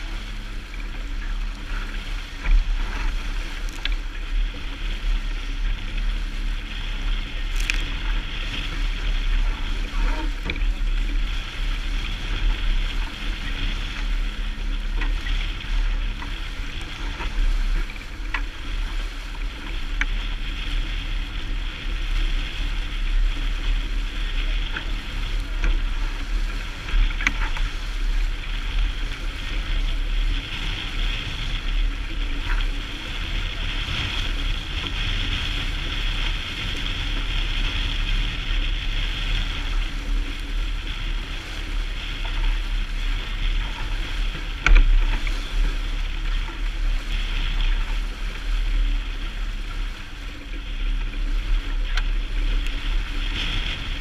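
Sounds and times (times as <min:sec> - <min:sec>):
water rushing along hull: 0:00.0 - 0:54.0
wind buffeting microphone: 0:00.0 - 0:54.0.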